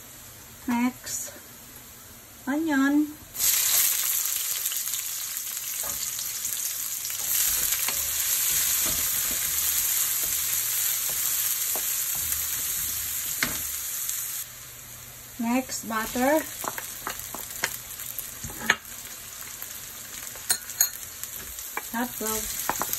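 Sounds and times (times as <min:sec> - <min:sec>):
onion and garlic sizzling in oil: 0:00.1 - 0:22.9.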